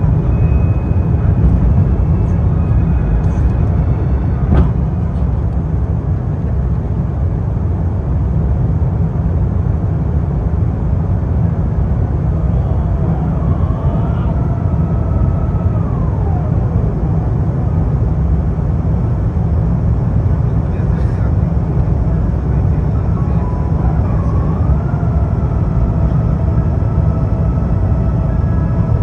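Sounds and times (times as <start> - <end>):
faint rising whine: 0.0 - 29.0
jet engine roar in cabin: 0.0 - 29.0.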